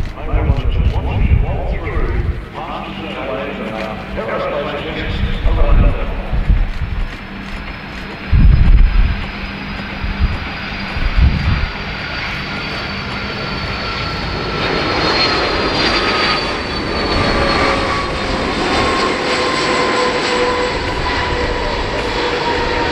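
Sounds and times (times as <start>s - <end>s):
jet engines whining: 0.0s - 22.9s.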